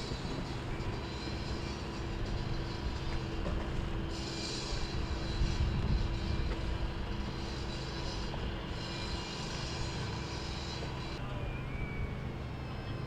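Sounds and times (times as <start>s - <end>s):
motorboat engines droning: 0.0s - 13.0s.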